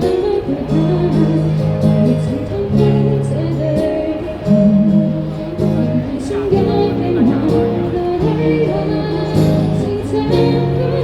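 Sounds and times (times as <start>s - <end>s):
guitar and bass chords: 0.0s - 11.0s
person singing: 0.0s - 11.0s.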